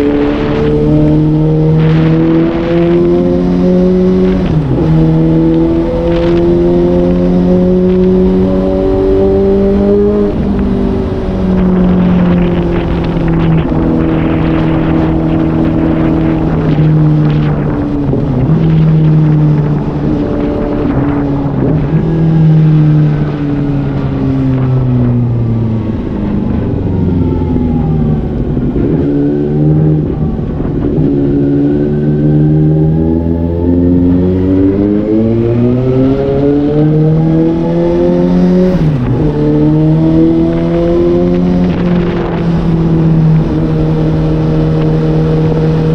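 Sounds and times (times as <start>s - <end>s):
motorcycle engine revving: 0.0s - 45.9s
wind and road noise: 0.0s - 45.9s.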